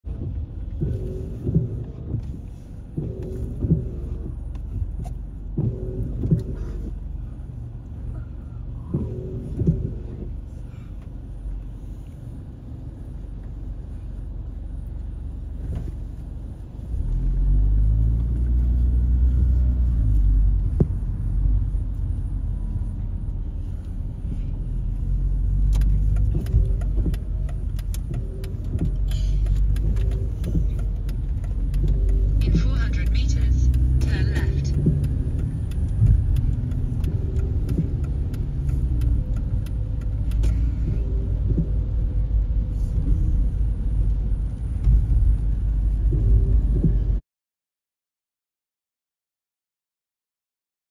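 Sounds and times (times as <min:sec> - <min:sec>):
car engine rumble: 0:00.0 - 0:47.2.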